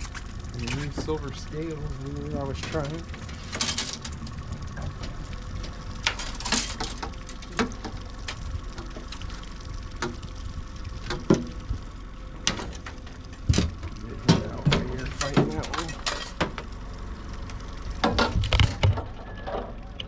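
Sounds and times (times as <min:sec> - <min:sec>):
outboard motor humming: 0:00.0 - 0:20.0.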